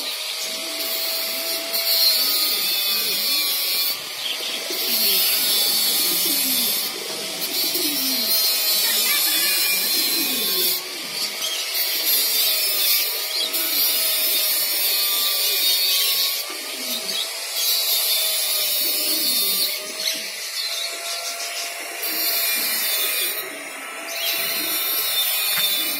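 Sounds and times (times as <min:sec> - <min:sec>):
loud high hissing: 0:00.0 - 0:25.9
pigeon cooing: 0:00.0 - 0:25.9.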